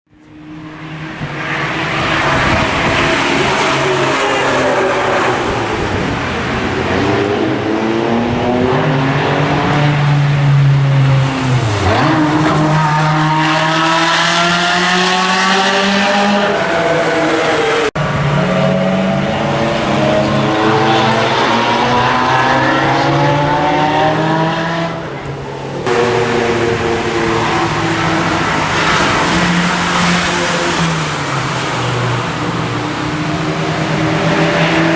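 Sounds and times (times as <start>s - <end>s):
racing car engine revving: 0.2s - 34.9s.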